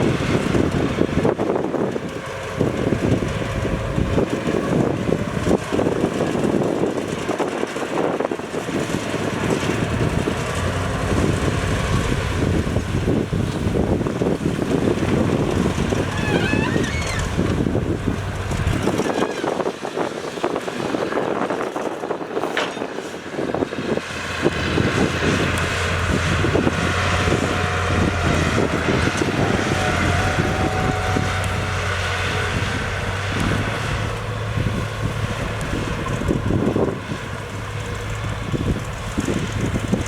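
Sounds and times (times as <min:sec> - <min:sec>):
diesel engine of heavy machinery: 0:00.0 - 0:40.0
noisy clatter: 0:00.0 - 0:40.0.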